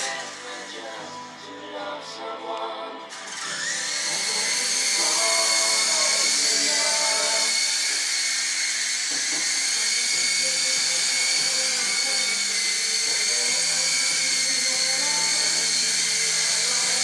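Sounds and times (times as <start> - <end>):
rc helicopter rotors whining: 3.1 - 17.0.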